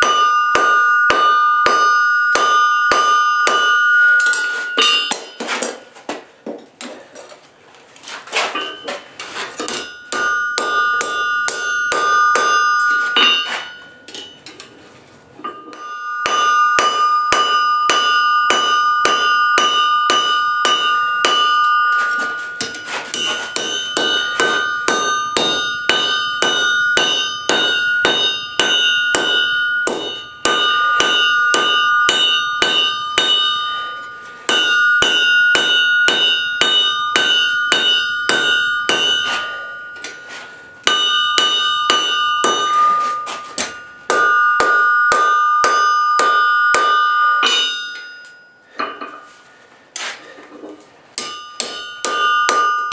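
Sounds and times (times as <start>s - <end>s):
anvil ringing: 0.0s - 5.9s, 8.6s - 14.8s, 15.4s - 50.4s, 51.2s - 52.9s
hammer striking steel on anvil: 0.0s - 7.0s, 8.5s - 14.8s, 15.4s - 49.4s, 51.2s - 52.9s.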